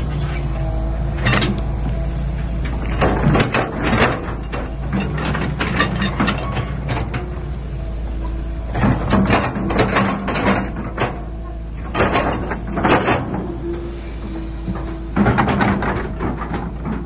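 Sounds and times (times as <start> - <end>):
excavator engine running: 0.0 - 17.0
metallic clanks and knocks: 1.1 - 17.0.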